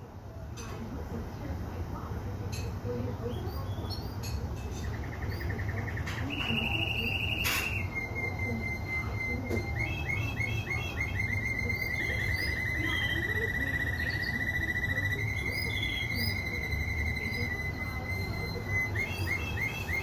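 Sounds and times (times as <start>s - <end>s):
canary singing: 1.4s - 20.0s.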